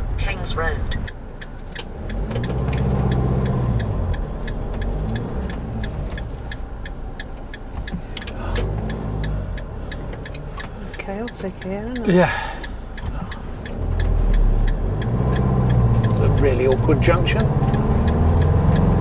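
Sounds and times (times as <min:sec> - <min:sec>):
engine from inside cab: 0:00.0 - 0:19.0
turn indicator ticking: 0:00.0 - 0:19.0.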